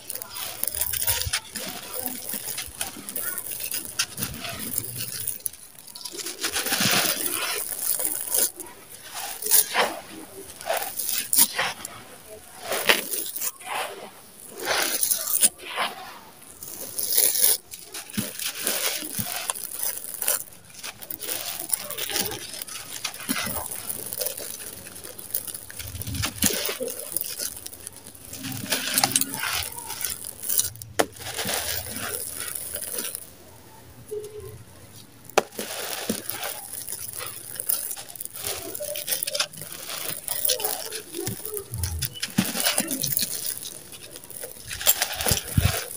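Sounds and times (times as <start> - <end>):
grit pattering onto pile: 0.0 - 45.9
gritty crunching of crumbling chunks: 0.0 - 45.9.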